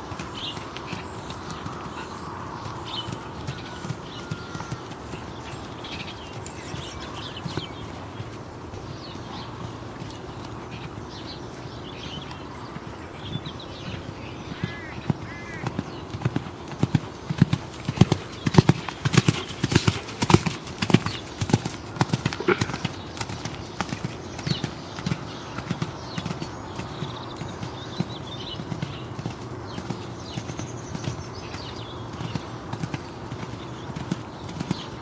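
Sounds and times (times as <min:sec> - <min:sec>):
pony hoofbeats: 0:00.0 - 0:35.0.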